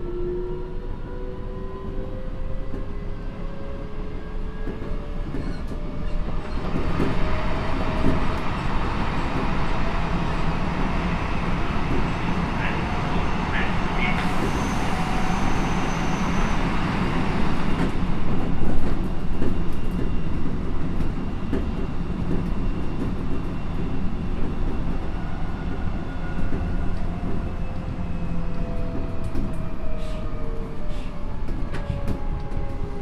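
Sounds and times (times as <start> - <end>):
train wheels rumbling on rails: 2.5 - 33.0.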